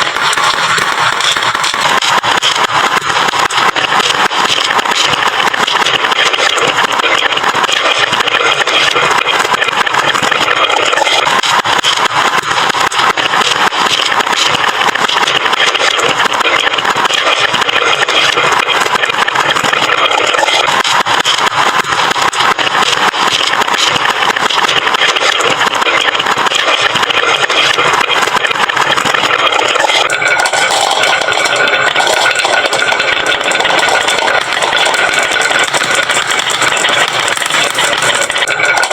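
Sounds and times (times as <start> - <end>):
marbles rolling down wooden run: 0.0 - 38.9.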